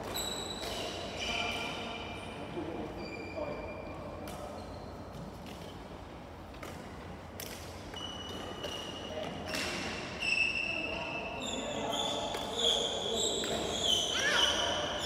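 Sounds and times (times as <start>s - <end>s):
shoes squeaking on court floor: 0.0s - 2.1s, 2.9s - 6.7s, 7.7s - 15.0s.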